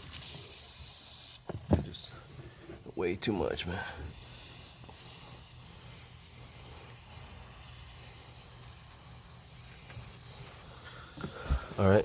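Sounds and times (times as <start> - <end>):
pressurised gas hissing from leak: 0.0 - 12.0.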